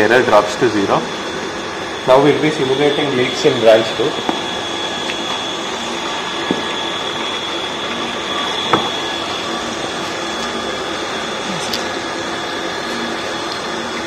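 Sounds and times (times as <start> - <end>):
electric water pump whirring: 0.0 - 14.0
water running from tap: 2.2 - 14.0.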